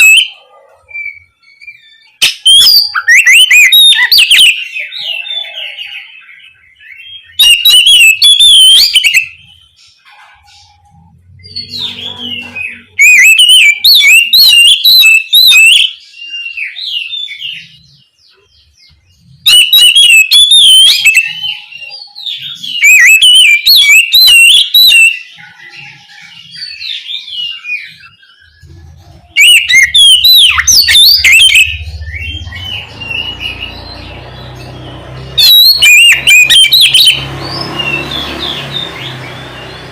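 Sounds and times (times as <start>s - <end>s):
bird twittering: 0.0s - 39.9s
magpie-robin warbling song: 0.0s - 39.9s.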